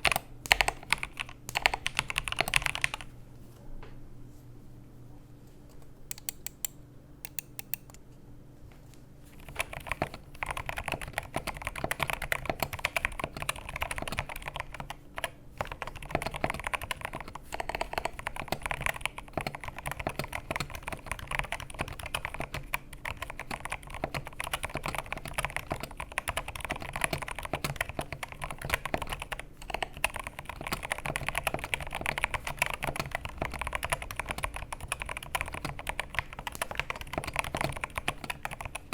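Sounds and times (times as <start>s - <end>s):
mechanical keyboard typing: 0.0s - 3.1s, 6.1s - 8.0s, 9.4s - 38.9s.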